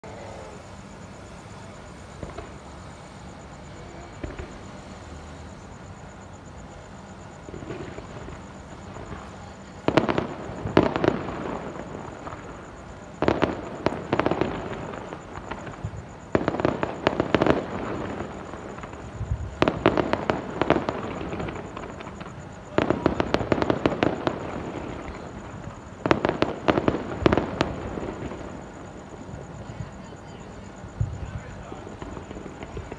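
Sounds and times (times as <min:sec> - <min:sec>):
fireworks bursting with crackling pops: 0:00.0 - 0:32.9.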